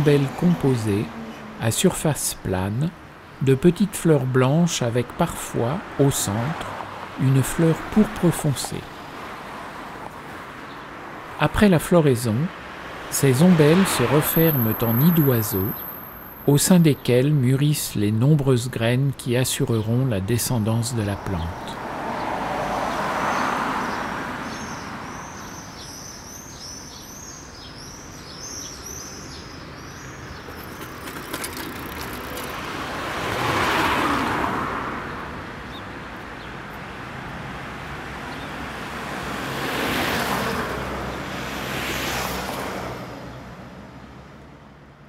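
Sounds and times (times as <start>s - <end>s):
cars passing by: 0.0s - 45.0s.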